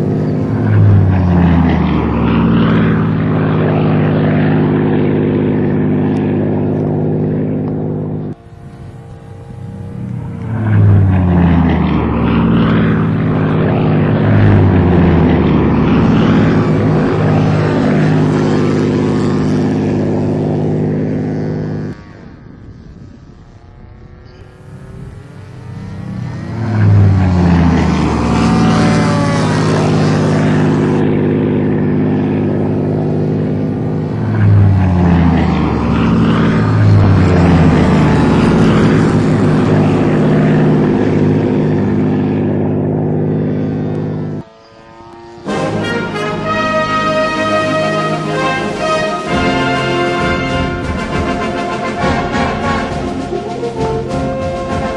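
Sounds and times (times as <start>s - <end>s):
model plane engines flying past: 0.0s - 54.9s.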